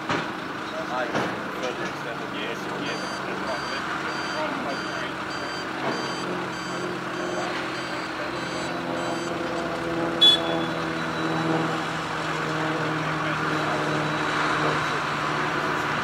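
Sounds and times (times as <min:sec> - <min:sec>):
diesel engine running: 0:00.0 - 0:16.0
reversing alarm beeping: 0:02.5 - 0:16.0.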